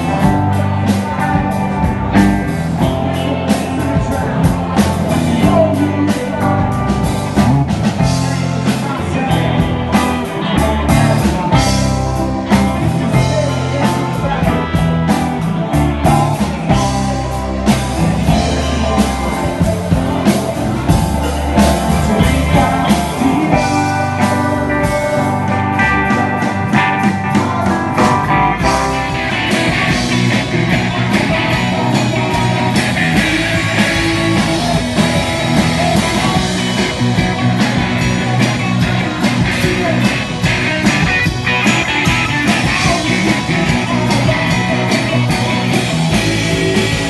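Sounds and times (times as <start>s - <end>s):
drum kit: 0.0s - 47.0s
electric guitars: 0.0s - 47.0s.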